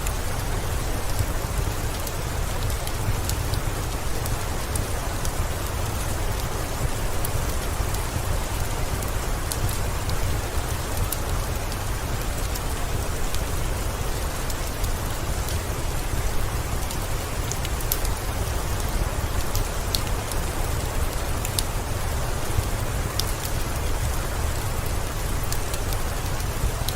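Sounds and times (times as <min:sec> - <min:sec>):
rain falling: 0:00.0 - 0:26.9.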